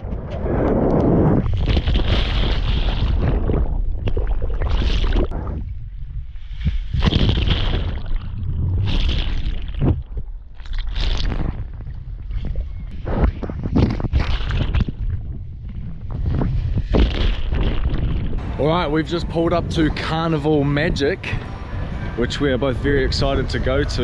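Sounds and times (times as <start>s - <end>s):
wind buffeting microphone: 0.0s - 10.5s, 11.3s - 24.0s.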